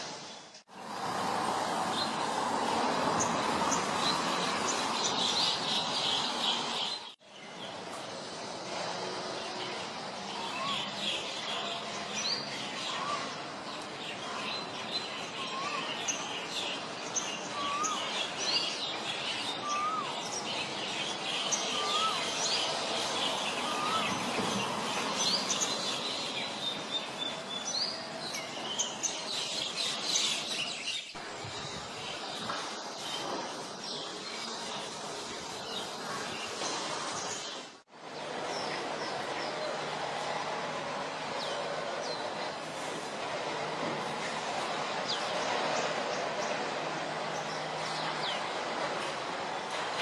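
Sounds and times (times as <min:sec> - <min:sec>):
birds chattering and chirping: 0:08.7 - 0:50.0.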